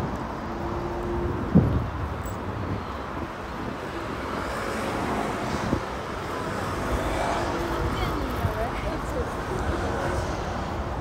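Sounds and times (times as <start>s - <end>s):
car traffic noise: 0.0s - 11.0s.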